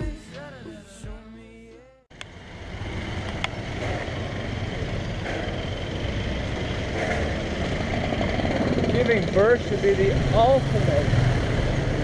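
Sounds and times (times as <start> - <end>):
motorcycles: 2.1 - 12.0
street traffic rumble: 2.1 - 12.0.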